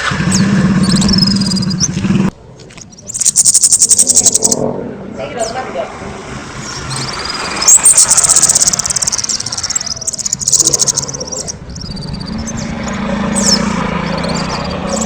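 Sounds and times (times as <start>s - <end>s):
songbird singing trills: 0.3s - 4.6s, 6.6s - 15.0s.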